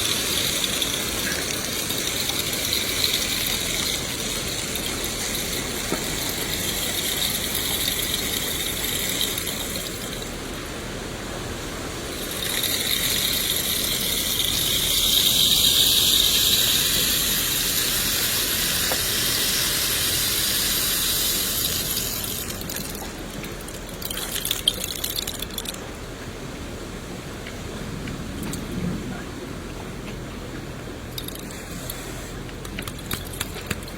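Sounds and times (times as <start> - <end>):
rain hissing: 0.0 - 33.9.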